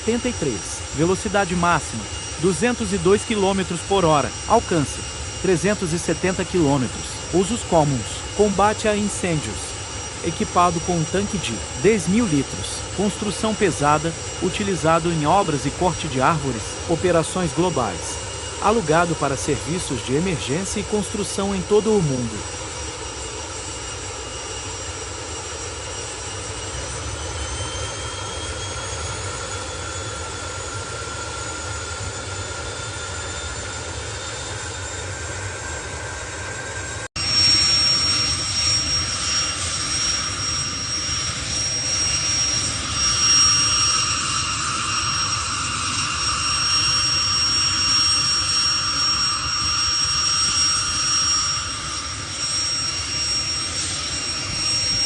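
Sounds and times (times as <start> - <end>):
helicopter turbine engines whining: 0.0 - 55.0.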